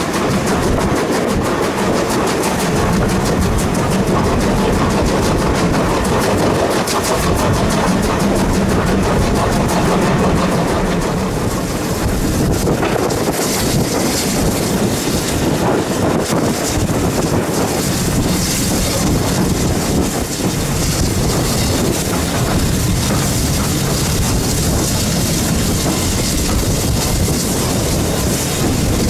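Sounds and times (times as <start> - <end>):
train running: 0.0 - 29.0
wind buffeting microphone: 0.0 - 29.0.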